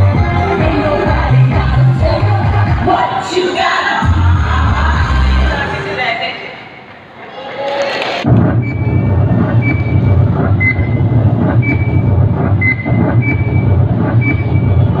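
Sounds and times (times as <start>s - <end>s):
loud dance music: 0.0s - 6.6s, 8.2s - 15.0s.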